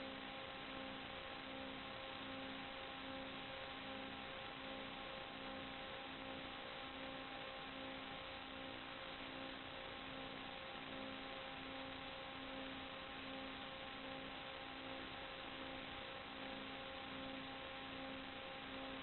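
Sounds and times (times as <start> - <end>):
faint hum tones: 0.0 - 19.0.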